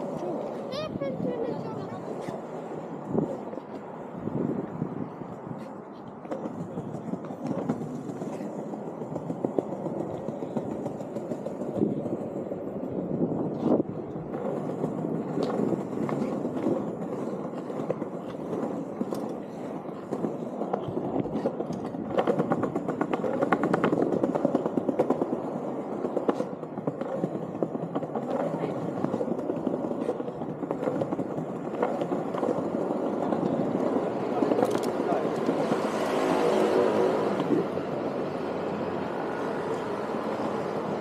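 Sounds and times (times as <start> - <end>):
skateboard wheels clicking over joints: 0.0 - 41.0
skateboard wheels rolling on paving: 0.0 - 41.0.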